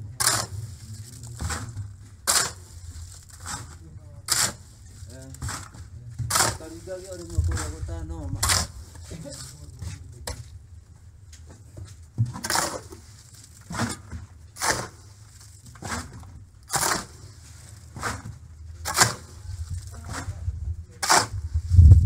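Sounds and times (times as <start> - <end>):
low steady rumble: 0.0 - 22.0
masonry scrapes and knocks: 0.0 - 22.0.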